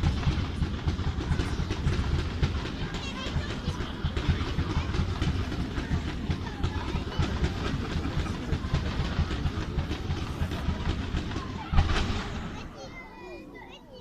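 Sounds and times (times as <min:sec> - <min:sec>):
fireworks popping and crackling: 0:00.0 - 0:12.6.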